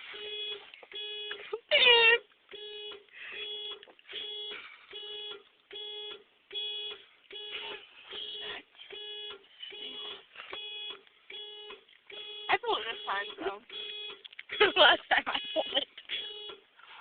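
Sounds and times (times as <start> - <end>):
car alarm beeping: 0.0 - 16.8.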